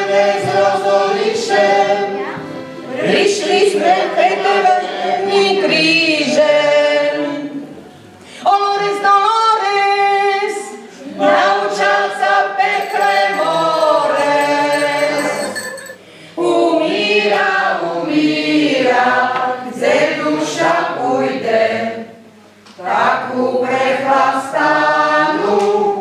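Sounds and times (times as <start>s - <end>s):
group singing a slow lament: 0.0s - 2.2s, 2.8s - 7.8s, 9.7s - 15.7s, 16.4s - 26.0s.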